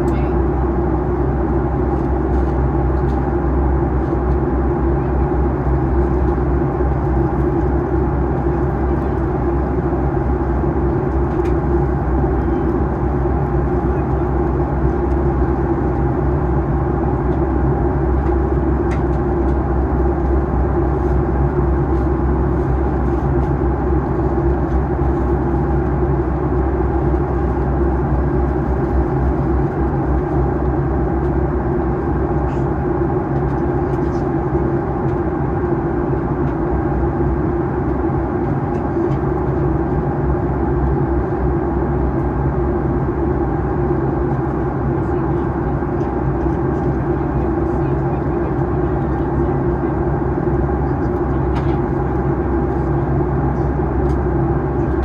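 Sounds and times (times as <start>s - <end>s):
low hum of jet engines: 0.0s - 55.0s.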